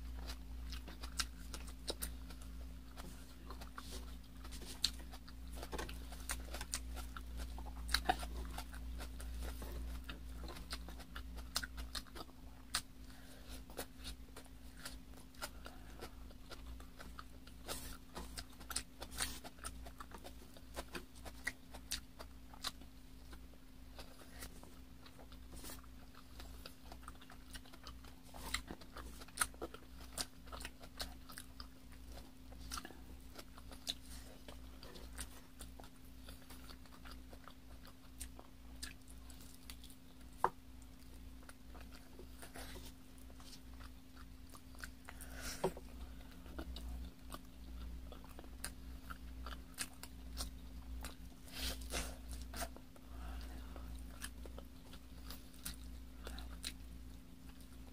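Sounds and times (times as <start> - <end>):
chewing and biting chicken: 0.0 - 57.9
faint low hum: 0.0 - 57.9.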